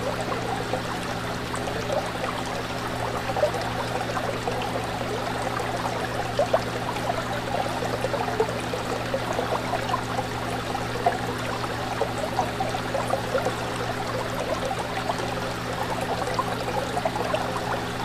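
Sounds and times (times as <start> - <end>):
fish tank water bubbling: 0.0 - 18.0.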